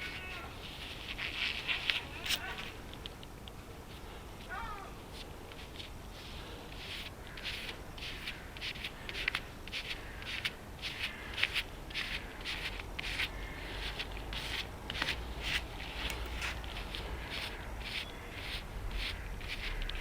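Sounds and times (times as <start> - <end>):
scraping rubbing strokes by hand: 0.0 - 3.0, 3.8 - 20.0.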